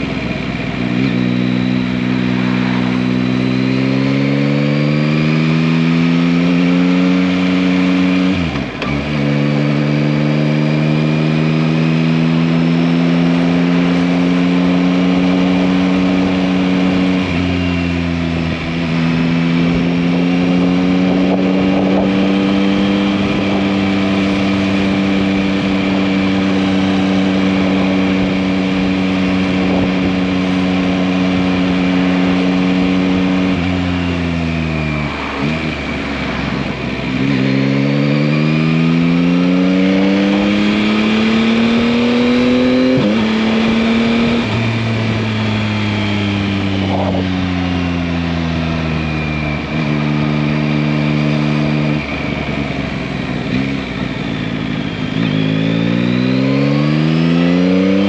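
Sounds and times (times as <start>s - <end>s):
motorcycle engine on the road: 0.0s - 58.0s.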